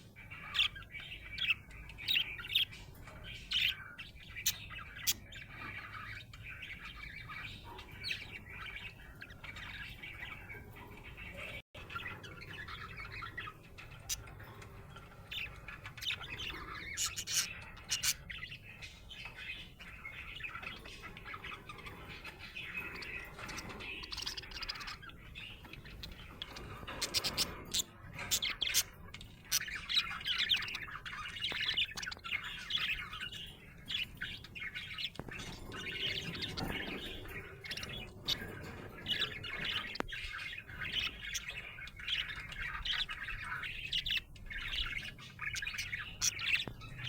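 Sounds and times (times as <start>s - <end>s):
budgie chirping and chattering: 0.0s - 47.0s.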